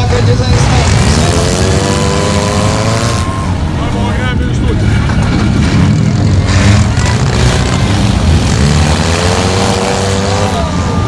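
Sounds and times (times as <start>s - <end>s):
car engines revving: 0.0s - 11.0s
engine revving up: 0.0s - 11.0s.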